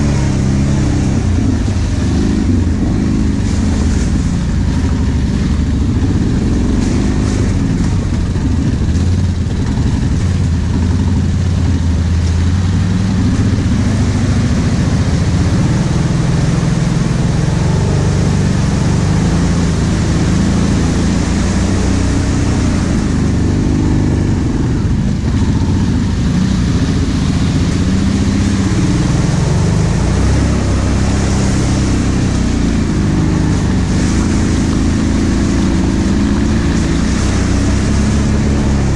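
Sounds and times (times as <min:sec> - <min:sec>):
atv engine running under load: 0:00.0 - 0:38.9.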